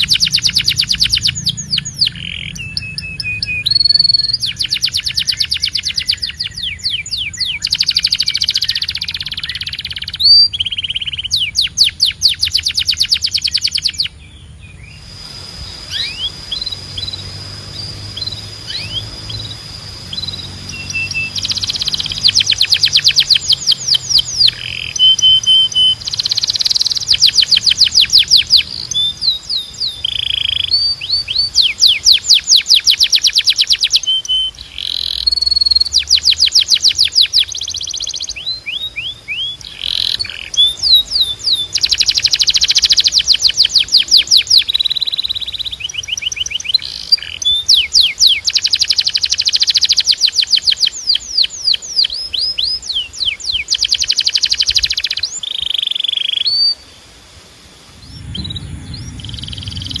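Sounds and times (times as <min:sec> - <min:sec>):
canary singing: 0:00.0 - 0:15.1, 0:15.8 - 0:56.9, 0:58.0 - 1:00.0.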